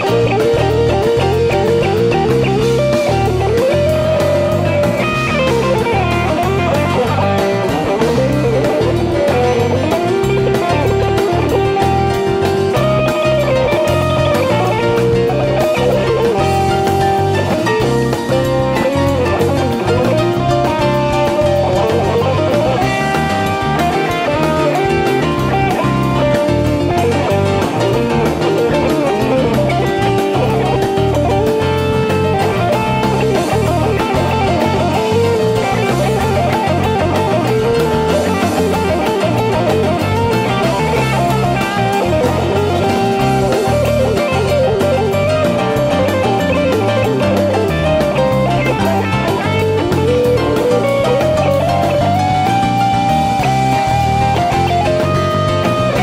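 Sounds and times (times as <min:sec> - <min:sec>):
electric guitar lines: 0:00.0 - 0:56.0
rock band playing instrumental: 0:00.0 - 0:56.0.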